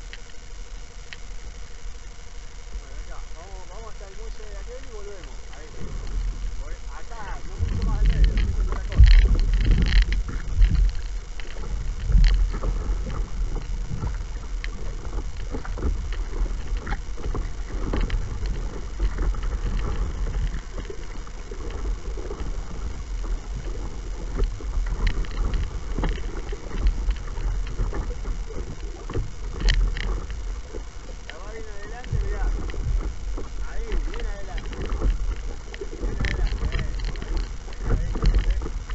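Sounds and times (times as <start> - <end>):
water lapping against a boat: 0.0 - 38.9
wind buffeting microphone: 3.4 - 38.9.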